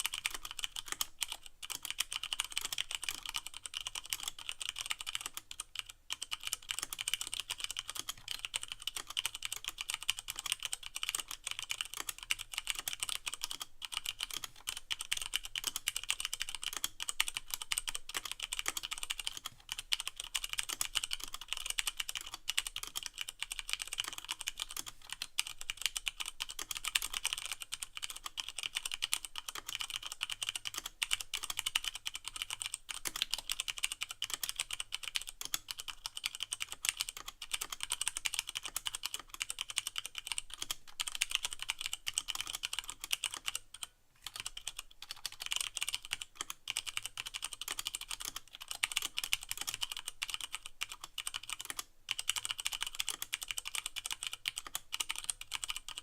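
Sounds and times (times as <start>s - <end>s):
rapid mechanical keyboard typing: 0.0s - 56.0s.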